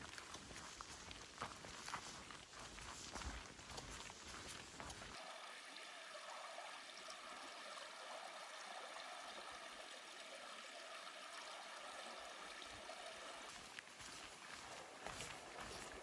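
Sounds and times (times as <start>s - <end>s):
faint running stream water: 0.0s - 16.0s.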